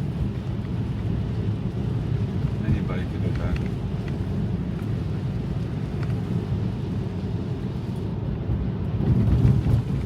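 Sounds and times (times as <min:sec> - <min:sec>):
tyres rumbling on wet road: 0:00.0 - 0:10.0.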